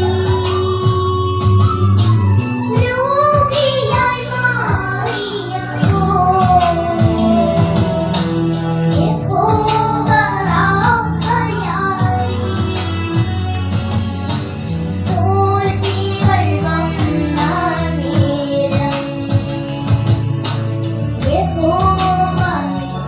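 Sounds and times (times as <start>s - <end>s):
girls singing into microphones: 0.0s - 23.0s
instrumental backing music: 0.0s - 23.0s.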